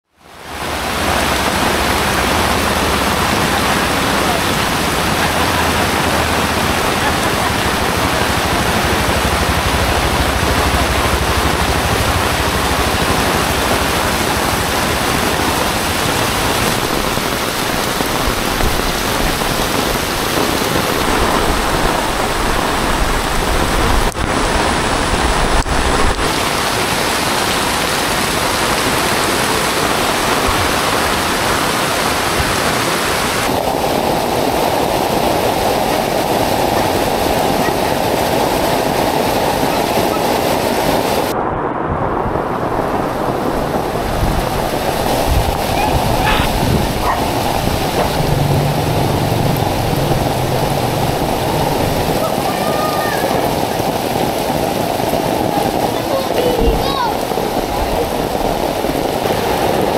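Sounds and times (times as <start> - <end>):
heavy rain on wet street: 0.0 - 59.9.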